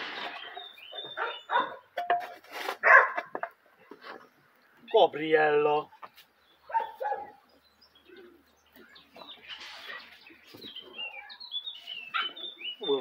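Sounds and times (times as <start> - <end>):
small birds chirping: 0.0 - 2.0, 3.6 - 13.0.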